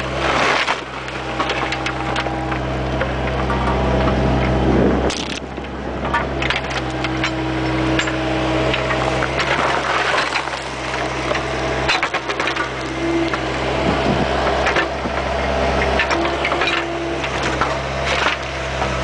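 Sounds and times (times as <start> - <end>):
bucket scraping dirt and stones: 0.0 - 2.7, 3.3 - 5.6, 6.2 - 15.1, 15.8 - 19.0
mini excavator engine running: 0.0 - 19.0.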